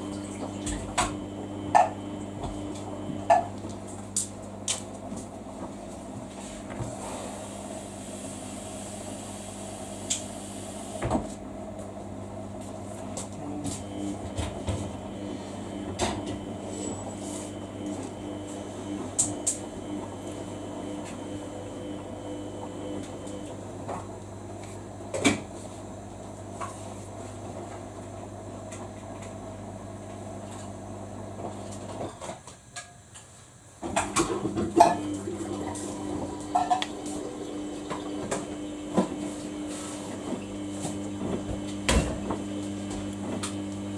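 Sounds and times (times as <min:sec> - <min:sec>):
washing machine motor humming: 0:00.0 - 0:32.3, 0:33.8 - 0:43.9.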